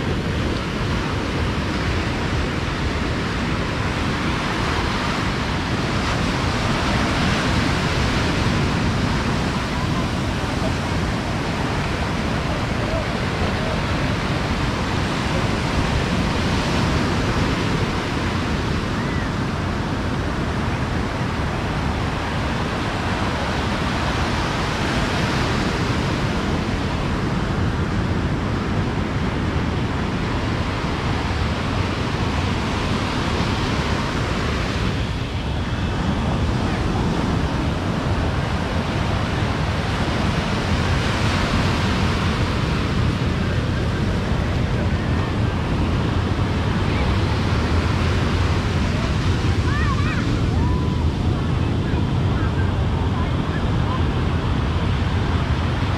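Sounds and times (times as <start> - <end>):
ocean surf breaking: 0.0 - 55.9.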